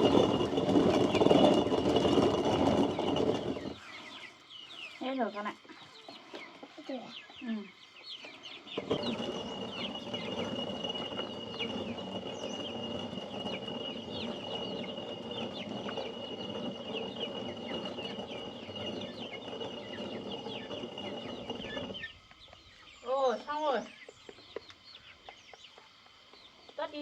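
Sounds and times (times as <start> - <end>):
chickens calling: 0.0 - 27.0
chicks peeping: 2.7 - 26.9.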